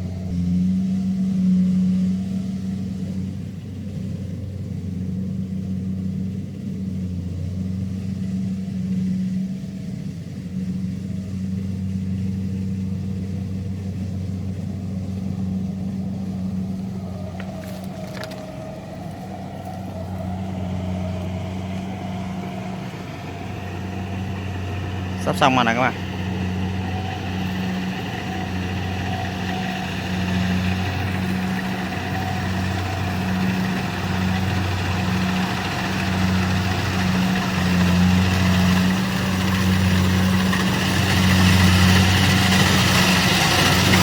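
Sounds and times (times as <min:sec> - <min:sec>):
combine harvester engine droning: 0:00.0 - 0:44.0.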